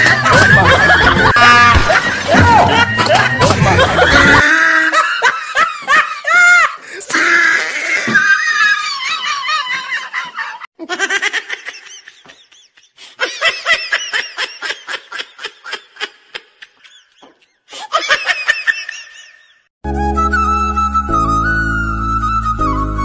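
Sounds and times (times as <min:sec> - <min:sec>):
person laughing: 0:00.0 - 0:19.6.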